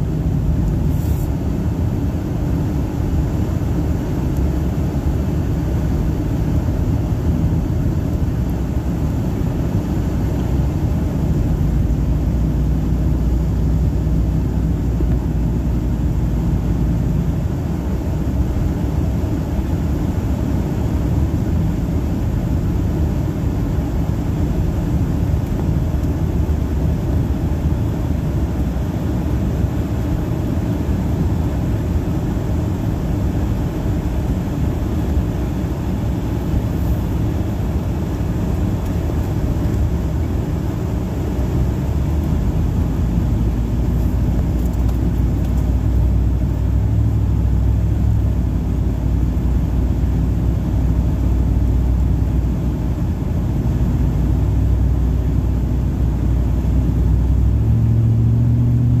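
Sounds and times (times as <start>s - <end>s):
engine and tyres rumbling: 0.0s - 59.0s
low engine drone: 0.0s - 59.0s.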